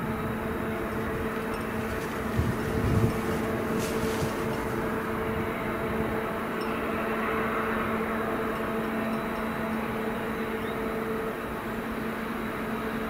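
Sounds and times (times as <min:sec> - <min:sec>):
distant diesel locomotive drone: 0:00.0 - 0:13.0.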